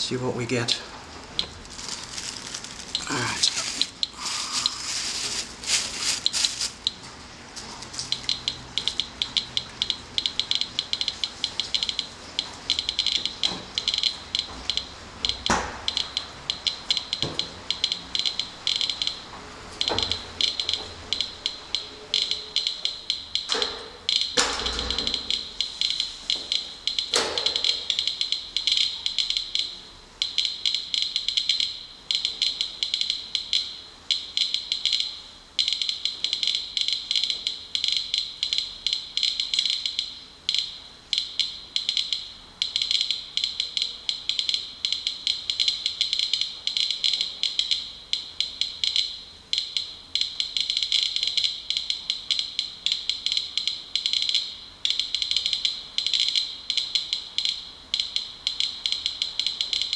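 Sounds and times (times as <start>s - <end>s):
geiger counter clicking: 8.0s - 59.9s.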